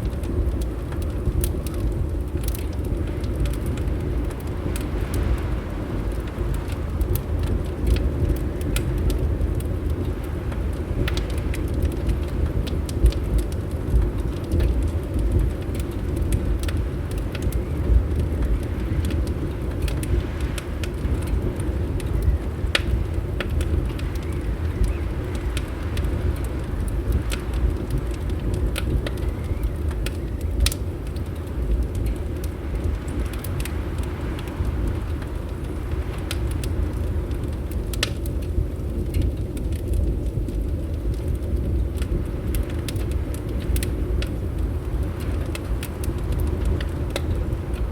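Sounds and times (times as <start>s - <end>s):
fire crackling and popping: 0.0s - 47.9s.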